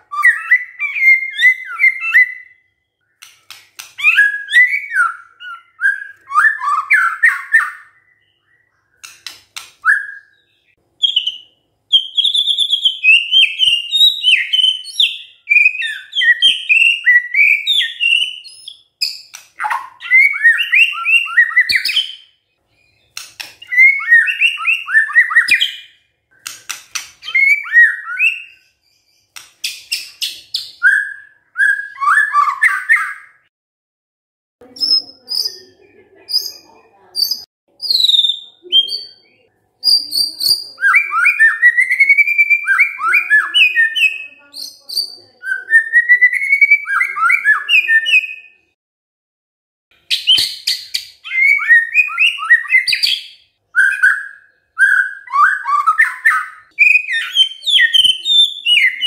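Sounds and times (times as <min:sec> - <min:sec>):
bird singing: 0:00.0 - 0:33.5, 0:34.7 - 0:48.7, 0:50.0 - 0:59.0.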